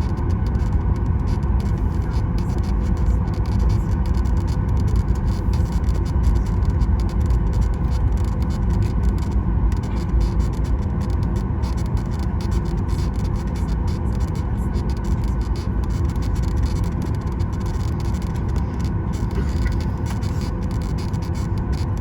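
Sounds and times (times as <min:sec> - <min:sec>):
aircraft cabin rumble: 0:00.0 - 0:22.0
faint jet engine whine: 0:00.0 - 0:22.0.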